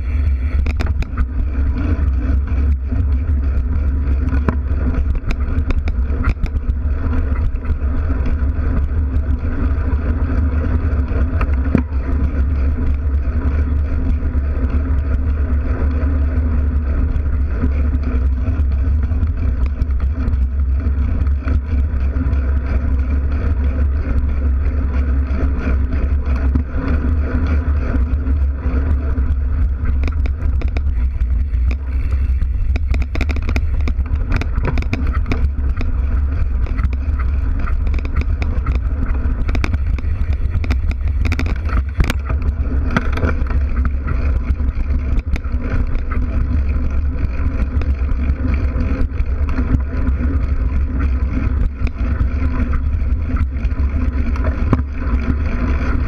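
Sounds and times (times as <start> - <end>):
bike tyre and wind rumble: 0.0 - 56.0
bike clattering and knocking: 0.4 - 56.0.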